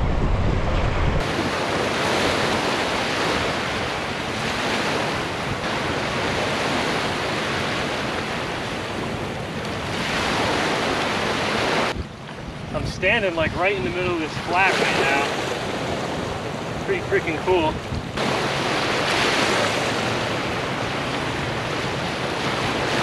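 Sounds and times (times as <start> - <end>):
small waves washing onto sand: 1.2 - 23.0.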